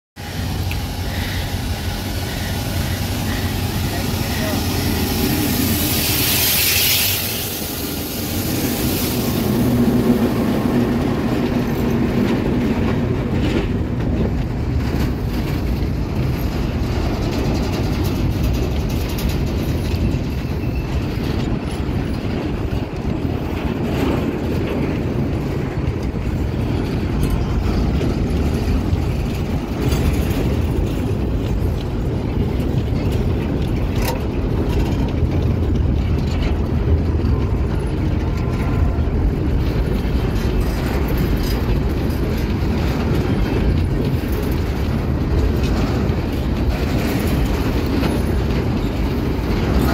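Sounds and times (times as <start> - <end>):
diesel locomotive engine: 0.2 - 49.9
train wheels rumbling on rails: 0.2 - 49.9.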